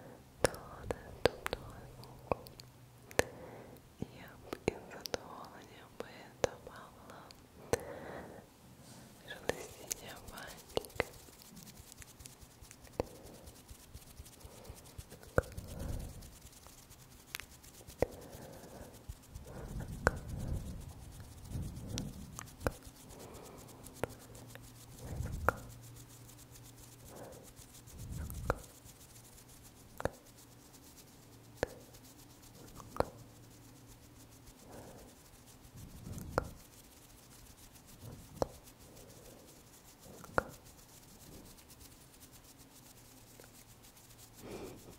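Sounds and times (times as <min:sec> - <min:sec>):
fingers rubbing on microphone: 0:00.0 - 0:07.8, 0:09.2 - 0:44.9.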